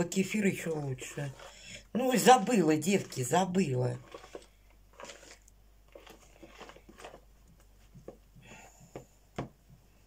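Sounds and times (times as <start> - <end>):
spoon stirring batter in a bowl: 0.0 - 9.1.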